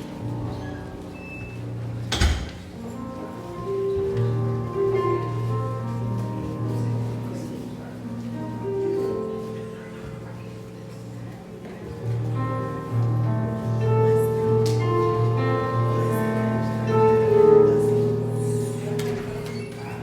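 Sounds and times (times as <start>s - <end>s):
slow music with held melody: 0.0s - 20.0s.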